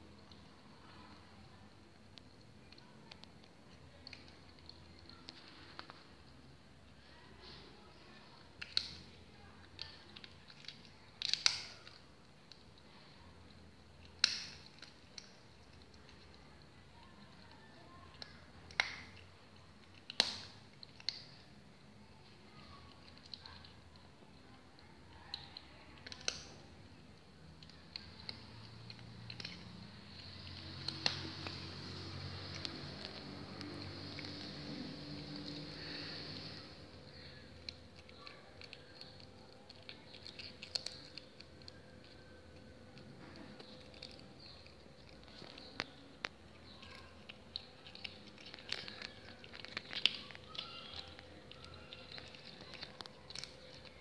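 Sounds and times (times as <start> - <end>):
kitten crunching on bone: 0.0 - 6.6, 7.5 - 54.0.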